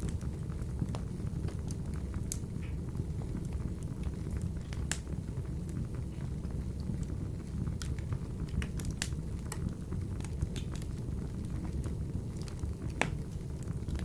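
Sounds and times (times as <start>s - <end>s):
fire crackles and pops: 0.0s - 14.0s.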